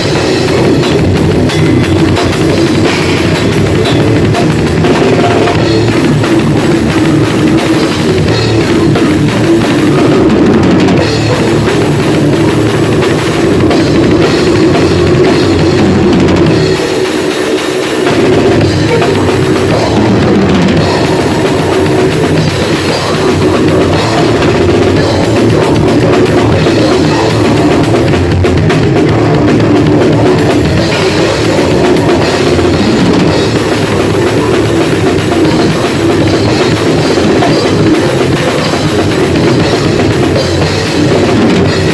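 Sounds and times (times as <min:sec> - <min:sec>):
bass drum and cymbals: 0:00.0 - 0:41.9
loud heavy band playing: 0:00.0 - 0:41.9.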